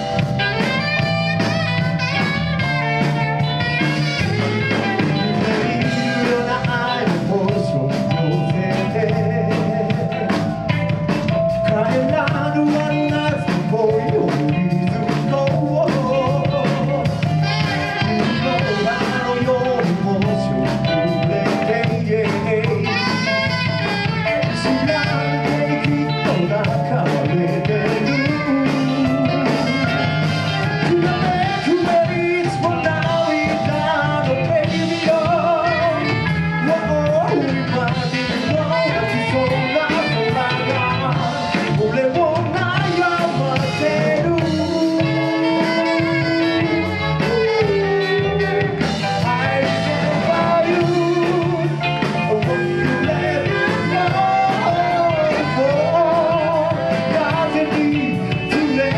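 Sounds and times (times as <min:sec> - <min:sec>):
lead melody line: 0:00.0 - 0:58.9
live band playing: 0:00.0 - 0:58.9.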